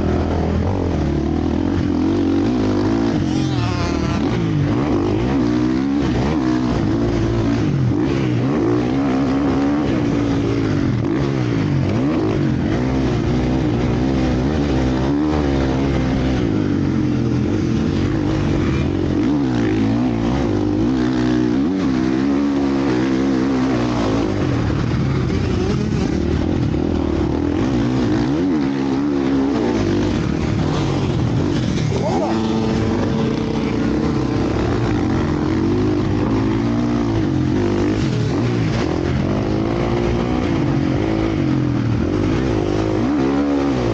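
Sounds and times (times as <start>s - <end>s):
motocross bikes revving: 0.0s - 43.9s.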